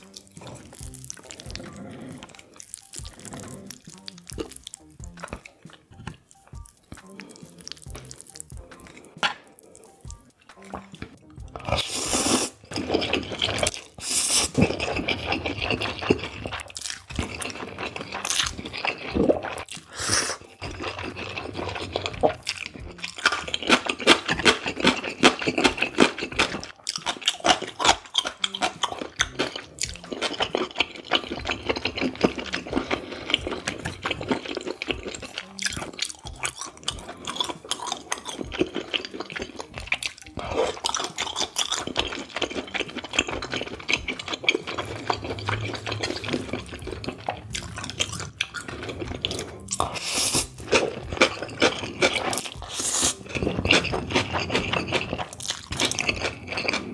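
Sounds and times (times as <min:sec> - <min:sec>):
noodle slurping: 0:00.0 - 0:06.2, 0:07.0 - 0:56.9
wet chewing: 0:00.0 - 0:56.9.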